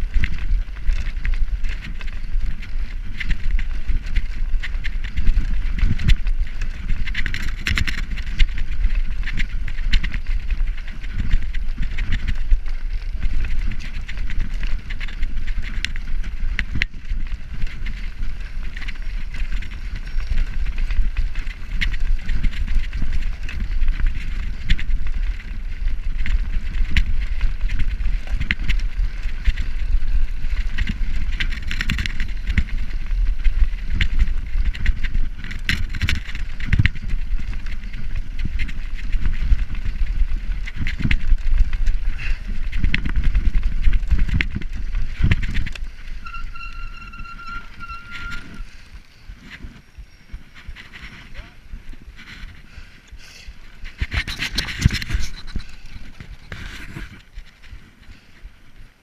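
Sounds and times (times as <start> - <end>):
tyres rumbling on stones: 0.0 - 58.3
bicycle rattling over cobblestones: 0.0 - 59.0.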